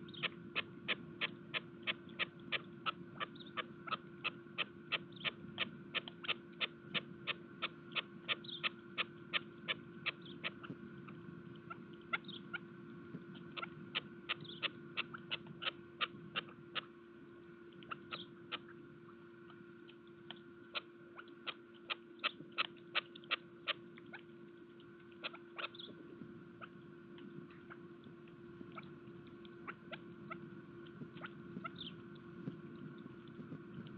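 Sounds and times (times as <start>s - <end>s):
beaks pecking seed: 0.0s - 16.9s, 17.7s - 33.9s
faint electrical hum: 0.0s - 33.9s.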